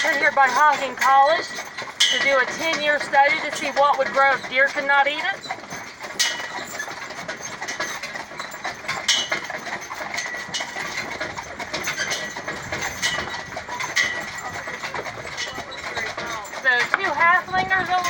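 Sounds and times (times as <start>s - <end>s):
carriage wheels rattling: 0.0s - 18.0s
high clinks: 0.0s - 18.0s
horse hoofbeats: 0.0s - 18.0s.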